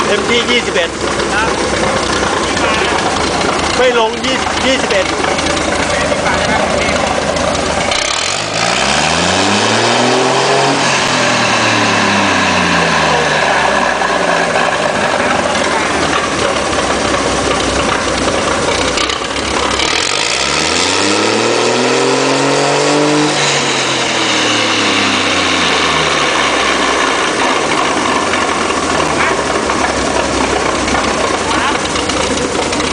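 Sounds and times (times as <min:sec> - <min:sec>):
engine revving: 0:00.0 - 0:32.9.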